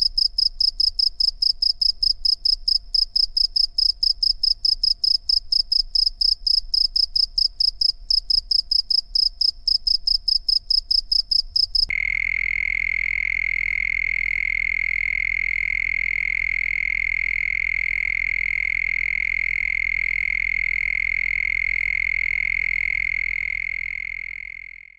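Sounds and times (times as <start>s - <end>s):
cricket chirping: 0.0s - 24.9s
steady insect trill: 0.0s - 24.9s.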